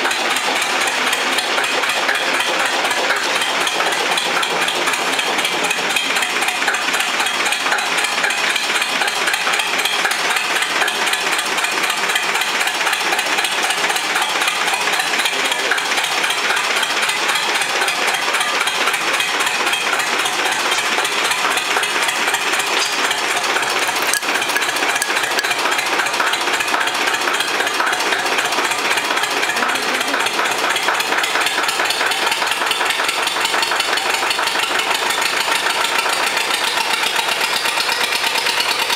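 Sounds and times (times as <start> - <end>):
tractor diesel engine knocking: 0.0 - 38.9.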